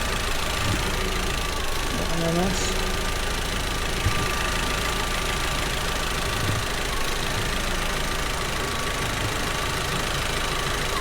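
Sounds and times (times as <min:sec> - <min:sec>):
car engine idling and misfiring: 0:00.0 - 0:11.0.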